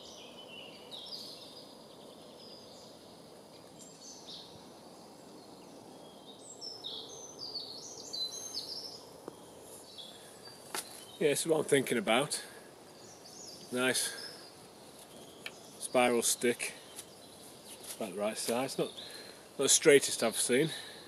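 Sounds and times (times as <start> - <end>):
outdoor background hiss: 0.0 - 21.0
songbirds singing: 0.0 - 21.0.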